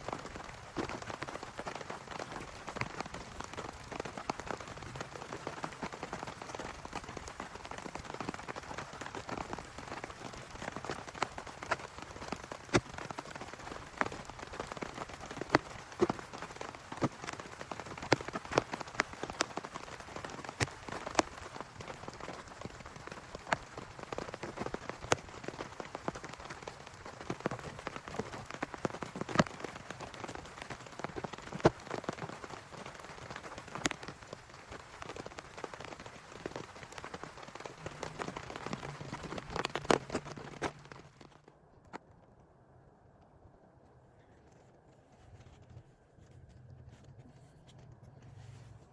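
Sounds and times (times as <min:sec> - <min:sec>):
heavy rain falling: 0:00.0 - 0:41.4
large raindrops tapping: 0:00.0 - 0:41.5.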